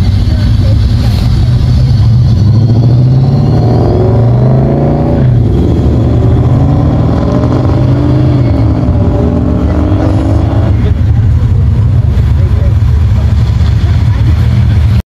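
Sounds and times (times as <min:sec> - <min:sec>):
car engines accelerating: 0:00.0 - 0:15.0.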